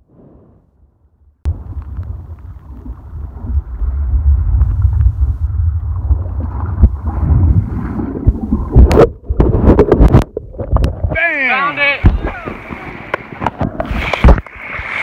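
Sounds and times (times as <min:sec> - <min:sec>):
muffled churning seawater: 0:01.5 - 0:15.0.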